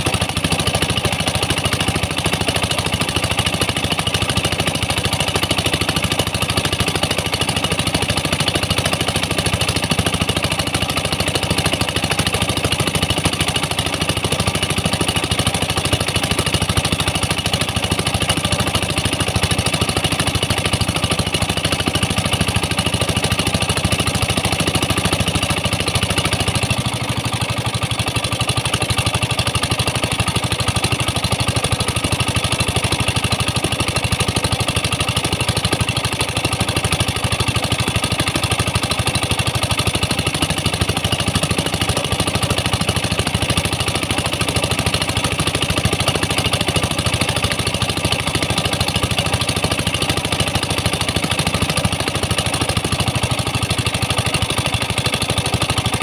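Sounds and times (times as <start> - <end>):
pump engine running: 0.0 - 56.0.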